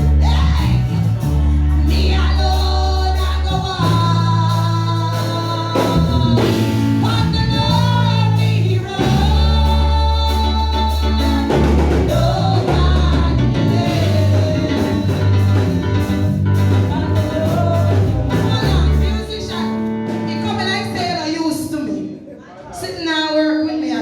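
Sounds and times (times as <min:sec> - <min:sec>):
band with bass and drums: 0:00.0 - 0:21.6.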